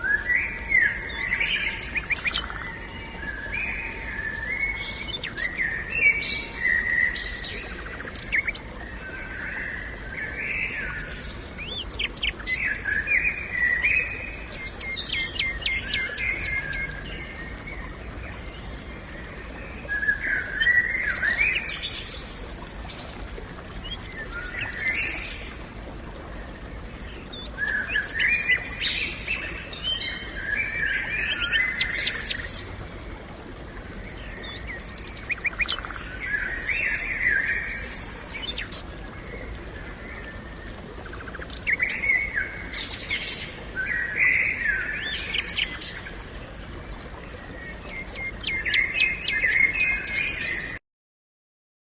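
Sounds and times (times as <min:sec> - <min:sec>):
birds chirping and warbling: 0:00.0 - 0:50.8.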